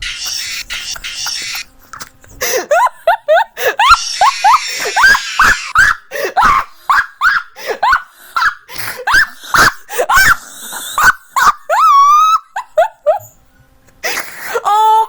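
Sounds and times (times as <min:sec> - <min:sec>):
man laughing in wheezing squeaks: 0:00.0 - 0:01.6, 0:02.4 - 0:13.4.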